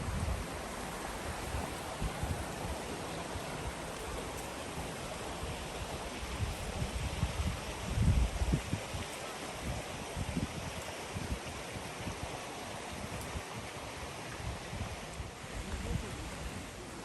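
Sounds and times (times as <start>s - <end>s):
stream water rushing: 0.0s - 17.0s
wind rumble on microphone: 0.0s - 17.0s.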